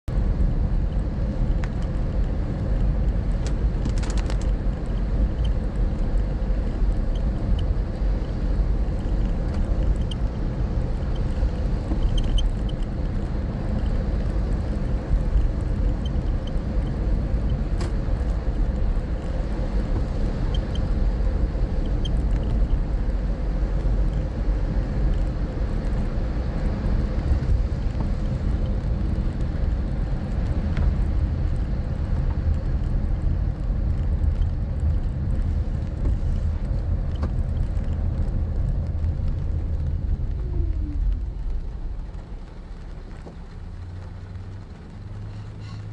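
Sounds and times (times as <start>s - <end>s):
car road rumble: 0.0s - 45.9s.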